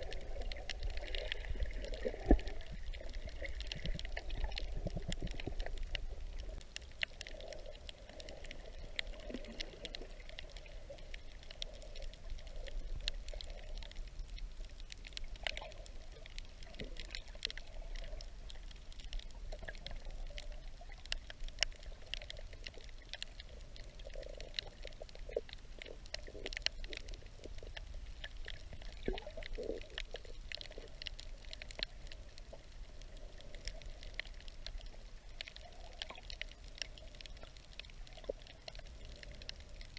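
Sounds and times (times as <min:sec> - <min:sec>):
crackle of small sharp clicks: 0:00.0 - 0:39.9
low rumble of moving water: 0:00.0 - 0:39.9.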